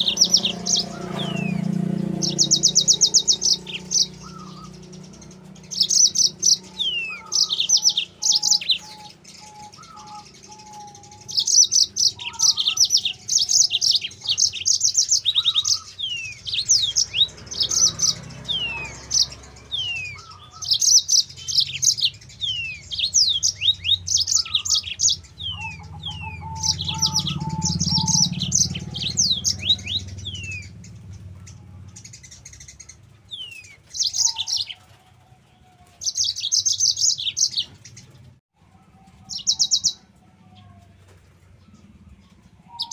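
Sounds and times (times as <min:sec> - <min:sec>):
canary singing trills and whistles: 0:00.0 - 0:35.0, 0:35.6 - 0:38.4, 0:39.2 - 0:40.6, 0:41.6 - 0:42.9.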